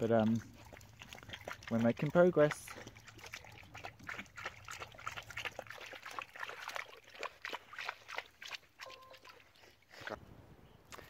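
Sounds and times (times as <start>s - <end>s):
dog splashing in muddy water: 0.0s - 10.2s.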